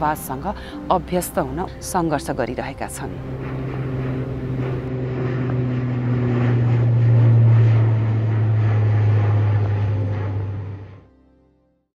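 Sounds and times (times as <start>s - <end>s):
propeller airplane flying over: 0.0s - 11.2s.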